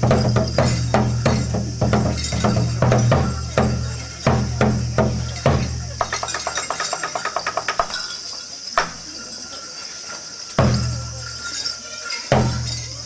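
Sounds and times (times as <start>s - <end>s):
drums booming: 0.0s - 9.2s, 10.5s - 11.5s, 12.3s - 13.0s.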